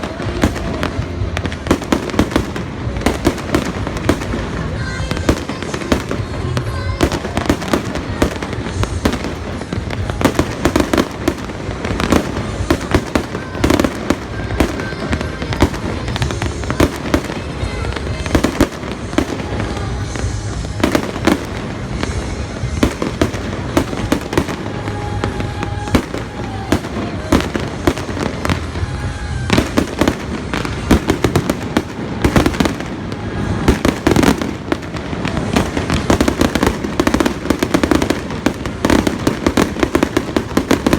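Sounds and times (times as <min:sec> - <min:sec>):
fireworks bangs and crackling: 0:00.0 - 0:40.9
music playing: 0:00.0 - 0:40.9.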